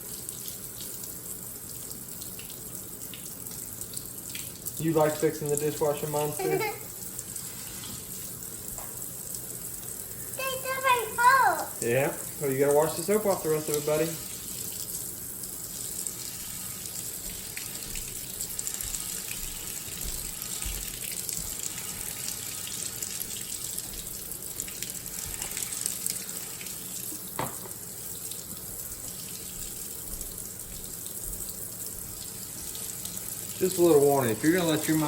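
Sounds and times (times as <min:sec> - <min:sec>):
faucet water splashing: 0:00.0 - 0:35.0.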